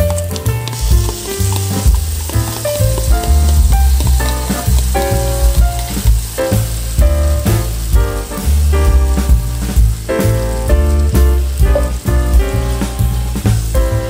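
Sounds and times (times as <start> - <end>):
background music with bass: 0.0 - 14.0
food sizzling in hot oil: 0.0 - 14.0.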